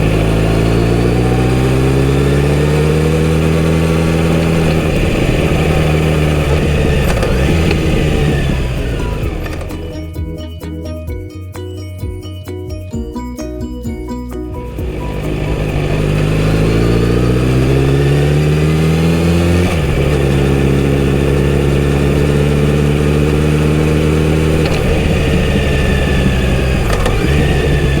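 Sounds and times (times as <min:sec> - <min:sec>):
motorcycle engine accelerating: 0:00.0 - 0:11.3, 0:12.9 - 0:28.0.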